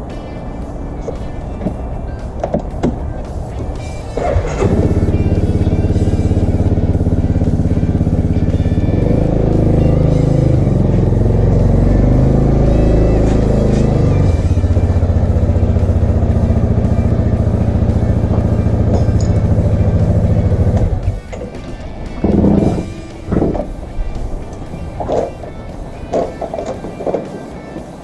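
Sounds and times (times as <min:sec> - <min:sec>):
scooter engine idling and revving: 0:00.0 - 0:27.4.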